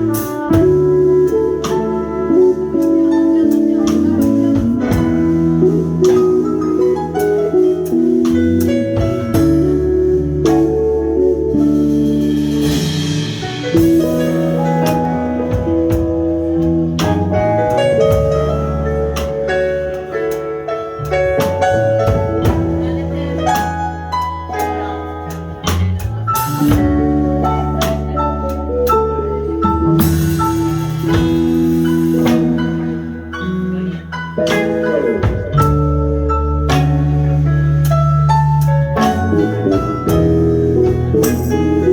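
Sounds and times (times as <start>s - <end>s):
jazz band playing: 0.0s - 41.9s.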